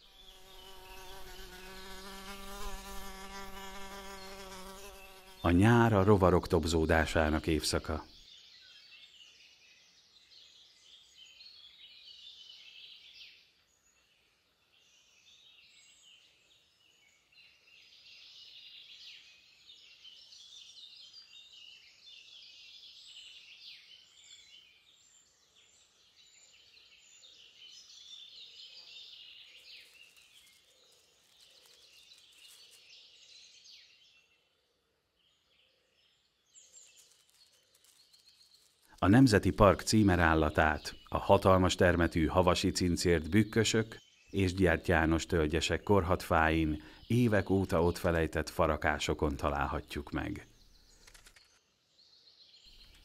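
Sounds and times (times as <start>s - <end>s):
small birds chirping and trilling: 0.0s - 53.0s.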